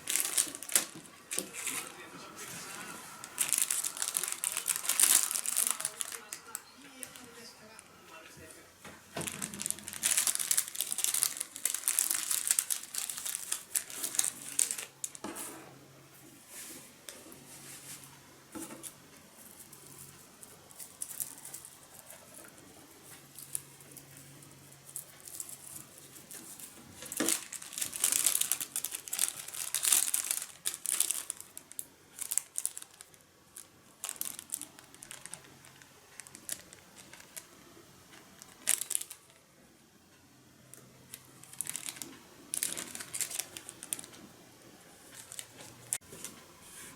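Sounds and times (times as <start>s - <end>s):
crinkling and rustling material: 0.0s - 39.5s, 40.7s - 46.9s.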